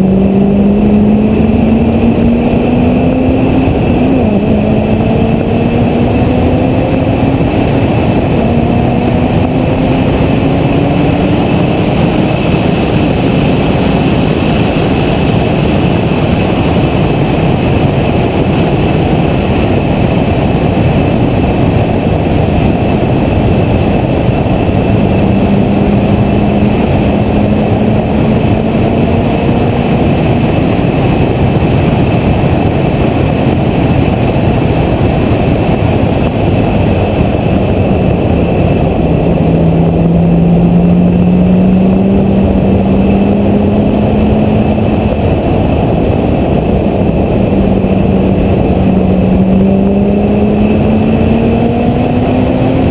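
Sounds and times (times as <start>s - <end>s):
car engine accelerating: 0.0s - 52.9s
wind and road noise: 0.0s - 52.9s.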